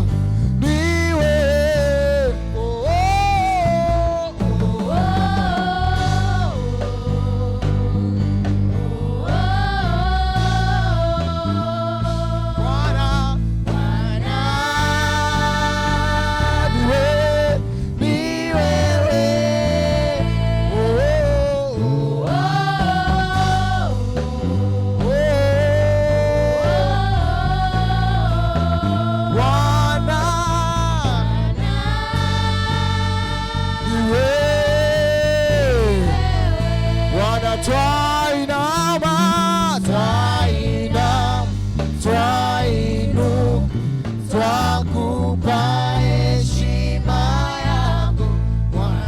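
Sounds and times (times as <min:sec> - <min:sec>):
church worship music: 0:00.0 - 0:49.0
steady bass: 0:00.0 - 0:49.0.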